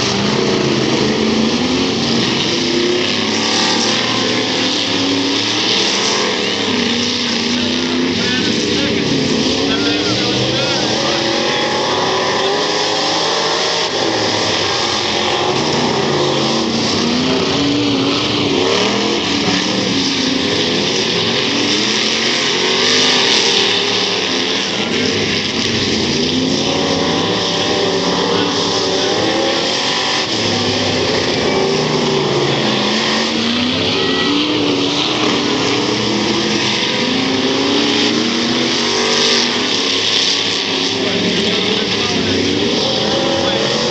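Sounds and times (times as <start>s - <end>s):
stock car engines racing: 0.0s - 43.9s.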